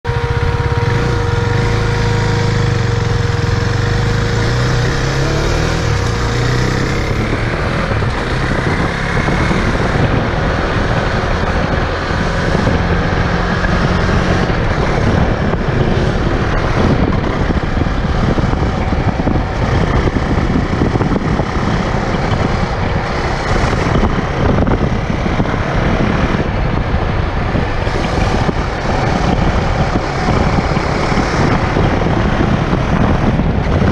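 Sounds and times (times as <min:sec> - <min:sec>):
motorcycle engine running: 0:00.0 - 0:33.9
wind rushing over microphone: 0:00.0 - 0:33.9.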